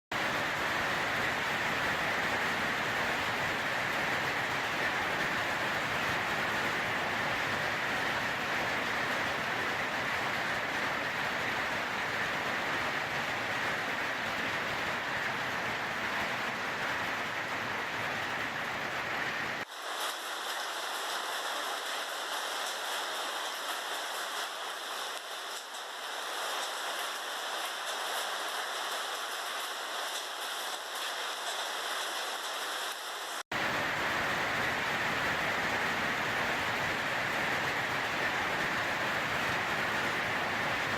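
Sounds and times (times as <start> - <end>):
heavy rain pouring: 0.1 - 40.9.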